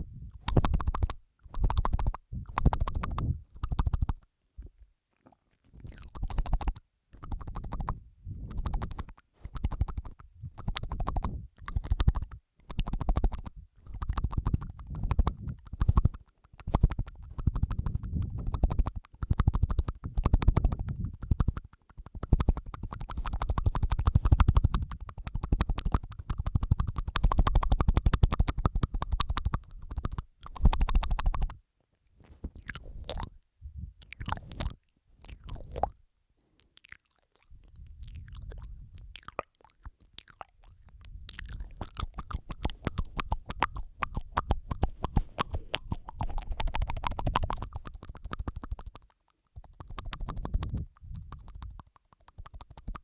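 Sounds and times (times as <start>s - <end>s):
tongue and lip clicks: 0.0s - 31.6s, 32.2s - 53.0s.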